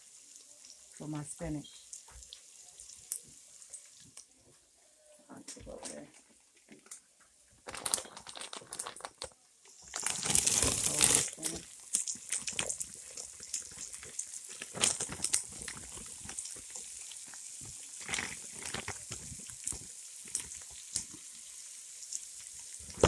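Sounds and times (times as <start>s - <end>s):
oil sizzling in a pan: 0.0s - 5.8s, 9.6s - 23.0s
crackles and spits of frying: 0.0s - 23.0s.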